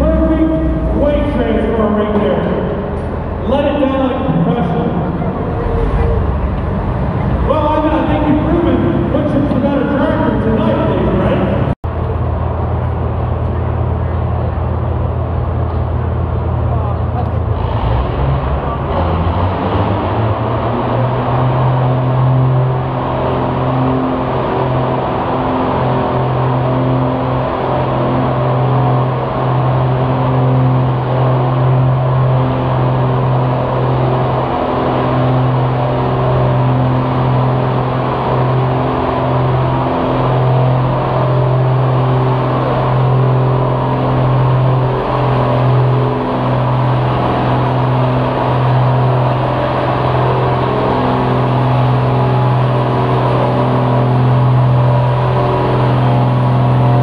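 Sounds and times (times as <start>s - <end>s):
vehicle engine running loud: 0.0s - 57.0s.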